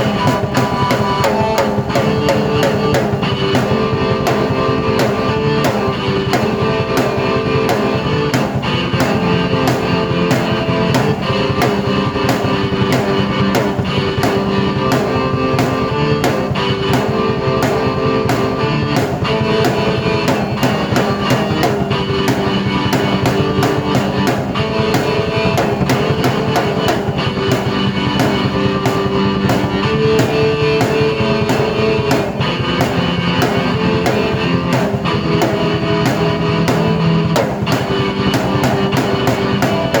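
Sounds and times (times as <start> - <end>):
held keyboard chords: 0.0 - 40.0
steady drum beat: 0.0 - 40.0.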